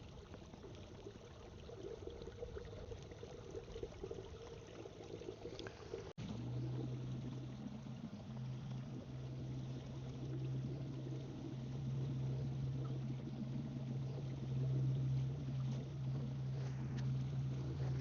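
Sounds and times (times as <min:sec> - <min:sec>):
steady low hum: 0:00.0 - 0:18.0
water sloshing: 0:00.0 - 0:18.0.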